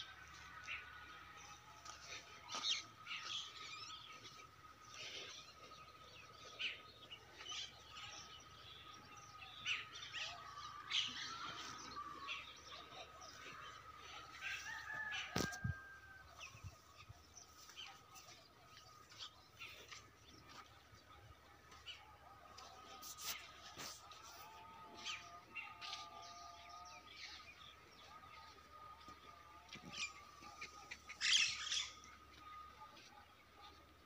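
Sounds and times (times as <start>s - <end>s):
faint birds chirping: 0.0s - 34.0s.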